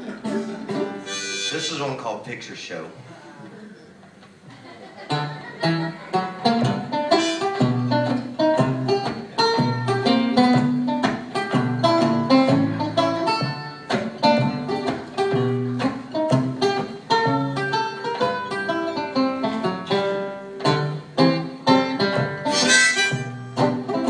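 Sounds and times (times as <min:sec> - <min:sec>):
banjo picking fast notes: 0:00.0 - 0:02.0, 0:05.1 - 0:24.0.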